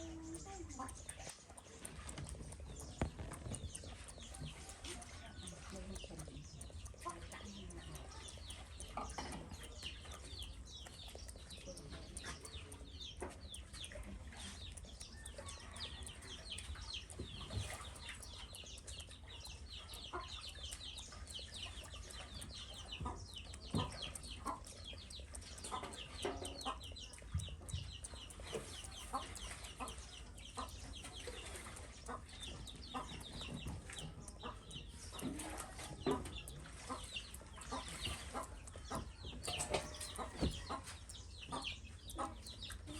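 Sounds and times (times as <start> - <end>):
chickens peeping and clucking: 0.0 - 42.9
sharp clicks: 0.0 - 42.9.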